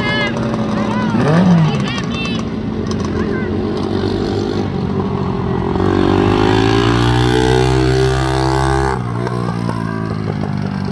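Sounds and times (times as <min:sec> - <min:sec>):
engines running steadily: 0:00.0 - 0:10.9
three-wheeler engine accelerating: 0:00.0 - 0:10.9.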